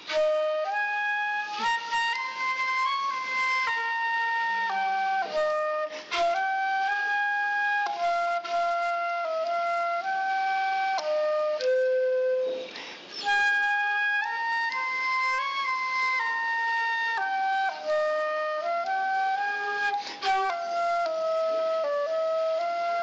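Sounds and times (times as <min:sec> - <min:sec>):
solo flute melody: 0:00.0 - 0:23.0.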